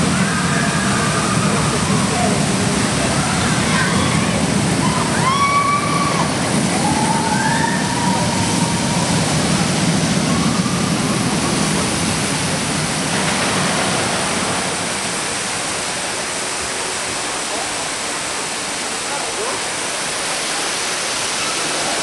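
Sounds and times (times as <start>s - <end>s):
fountain water rushing: 0.0s - 22.0s
roller coaster rumbling on track: 0.0s - 22.0s.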